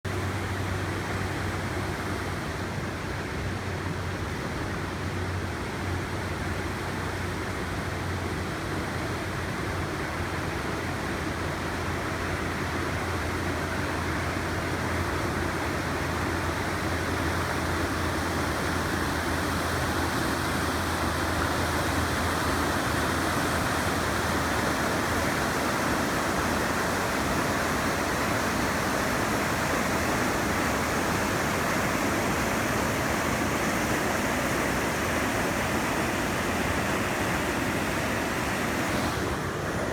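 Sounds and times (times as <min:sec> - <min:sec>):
brook water rushing: 0:00.1 - 0:39.9.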